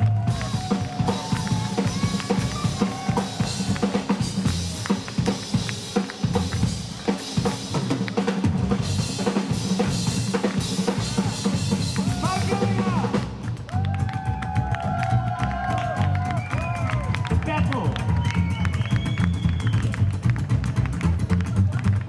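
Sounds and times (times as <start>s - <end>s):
drum kit playing fast: 0.0s - 22.0s
rock and roll band music: 0.0s - 22.0s.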